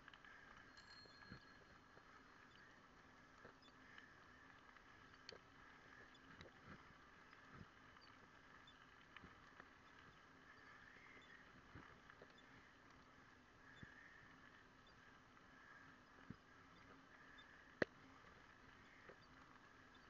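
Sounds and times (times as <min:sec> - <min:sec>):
faint steady hum: 0:00.0 - 0:20.0
light clicks and ticks: 0:00.0 - 0:20.0.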